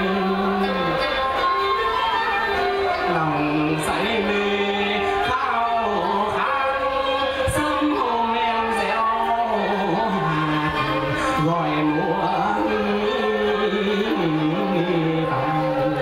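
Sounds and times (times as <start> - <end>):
amplified keyboard: 0.0 - 16.0
flute: 0.0 - 16.0
person singing into microphone: 0.0 - 16.0.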